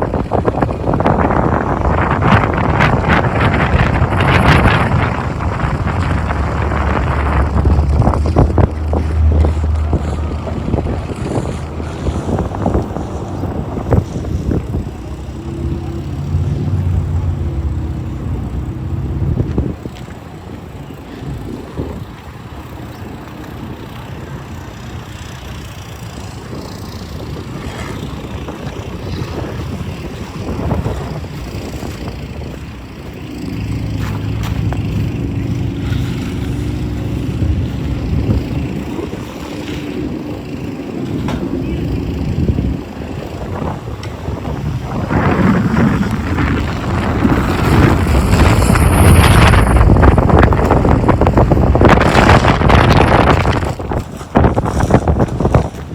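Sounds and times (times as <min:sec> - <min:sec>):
vehicle engine humming: 0:00.0 - 0:55.9
wind buffeting microphone: 0:00.0 - 0:55.9.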